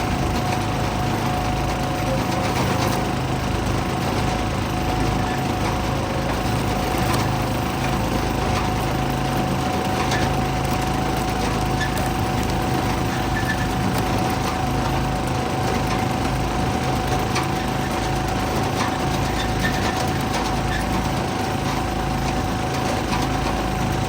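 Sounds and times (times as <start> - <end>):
small gasoline engine running: 0.0 - 24.0.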